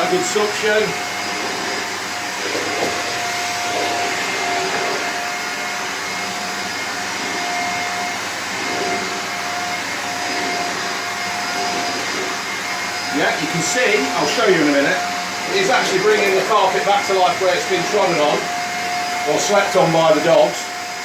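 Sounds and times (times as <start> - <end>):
vacuum cleaner running over rug: 0.0 - 21.0.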